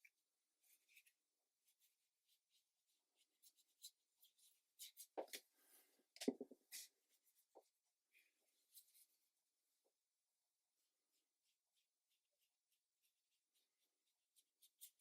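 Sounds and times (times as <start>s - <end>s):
brush strokes on paper: 0.6s - 6.0s, 6.6s - 15.0s.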